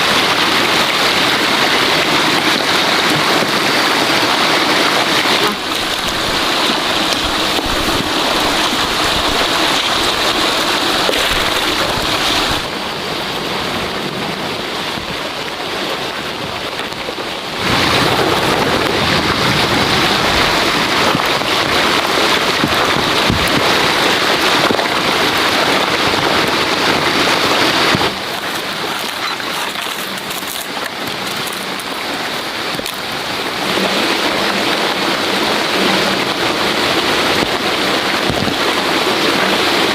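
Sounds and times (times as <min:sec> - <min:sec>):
rushing water noise: 0:00.0 - 0:39.9.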